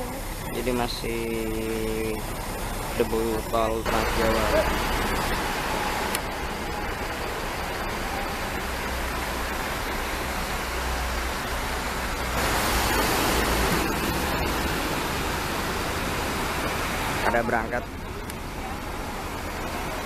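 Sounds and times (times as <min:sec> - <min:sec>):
diesel engines idling: 0:00.0 - 0:20.0.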